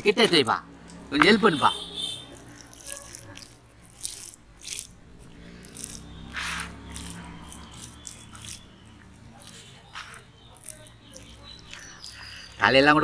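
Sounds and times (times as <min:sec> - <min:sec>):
hands smearing wet paste on fish: 0:02.2 - 0:12.8.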